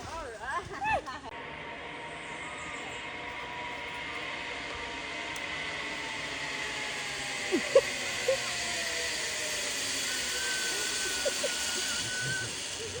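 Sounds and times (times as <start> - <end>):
zip-line trolley whirring: 0.4 - 13.0
pulley whine: 1.3 - 13.0.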